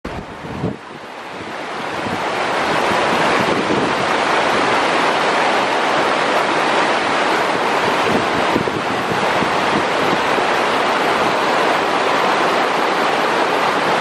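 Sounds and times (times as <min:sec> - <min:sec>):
river water rushing over rocks: 0:00.1 - 0:14.0.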